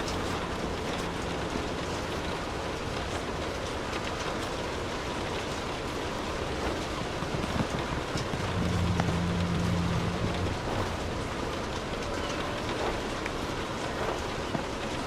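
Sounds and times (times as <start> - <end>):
low steady hum: 0.0 - 15.0
steady rain: 0.0 - 15.0.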